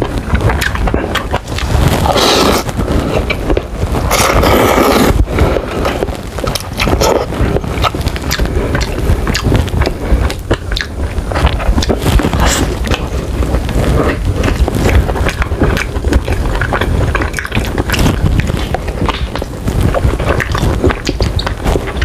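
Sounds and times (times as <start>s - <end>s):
wet chewing and lip smacking: 0.0s - 22.0s
slurping noodles: 0.6s - 22.0s.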